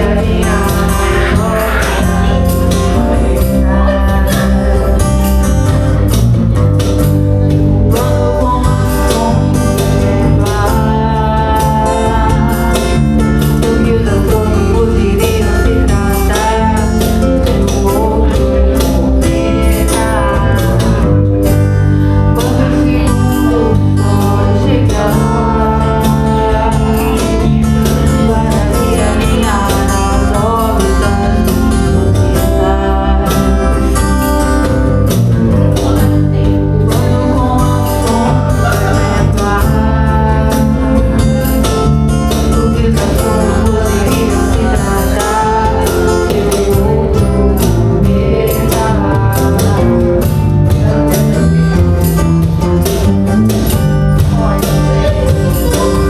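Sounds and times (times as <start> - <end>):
bass line: 0.0 - 56.0
guitar: 0.0 - 56.0
person singing: 0.0 - 56.0.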